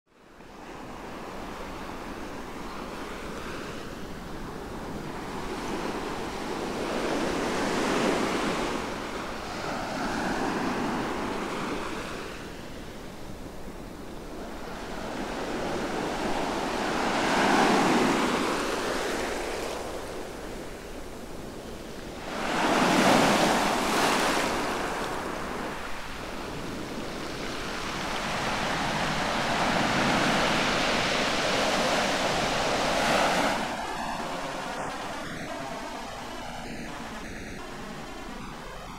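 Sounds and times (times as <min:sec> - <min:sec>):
sea waves breaking on beach: 0:00.6 - 0:38.9.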